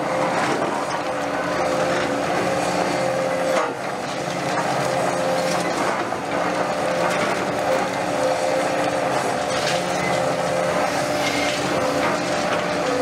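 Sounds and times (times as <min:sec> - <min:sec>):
excavator hydraulic whine: 0:00.0 - 0:13.0.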